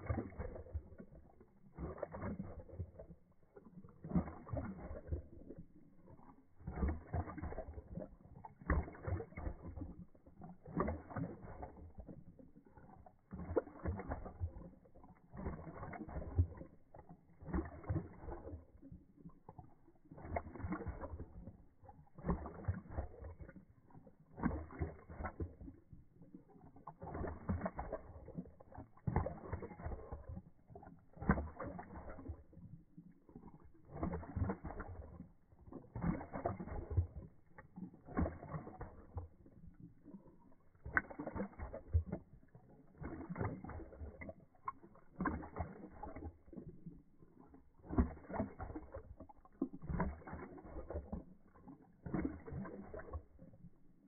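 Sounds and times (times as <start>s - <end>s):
dog lapping water slowed down: 0.0s - 54.0s.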